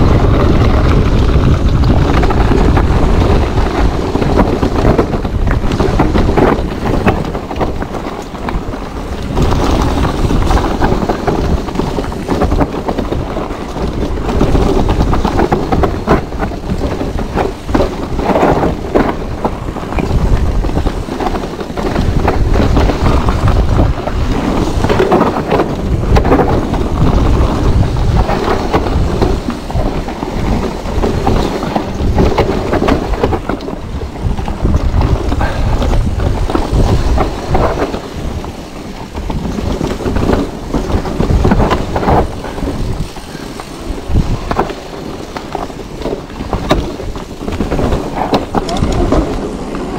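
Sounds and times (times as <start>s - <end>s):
bike knocking over bumps: 0.0s - 49.9s
mountain bike rumble and rattle: 0.0s - 49.9s
wind buffeting microphone: 0.0s - 49.9s.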